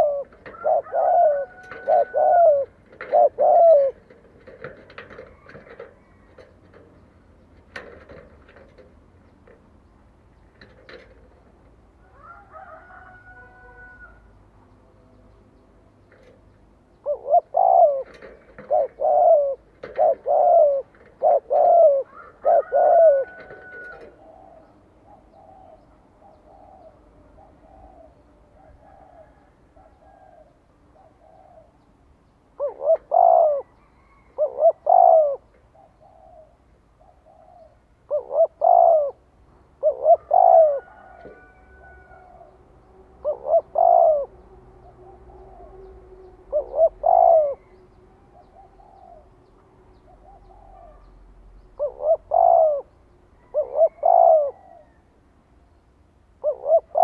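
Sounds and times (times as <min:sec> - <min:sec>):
dove cooing: 0:00.0 - 0:09.6, 0:10.5 - 0:14.3, 0:16.1 - 0:31.8, 0:32.5 - 0:55.1, 0:56.4 - 0:57.0.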